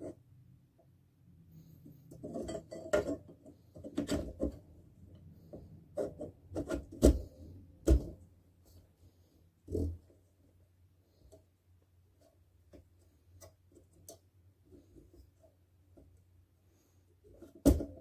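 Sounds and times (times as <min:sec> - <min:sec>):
rustling and scraping: 0:01.5 - 0:11.5, 0:12.1 - 0:18.0.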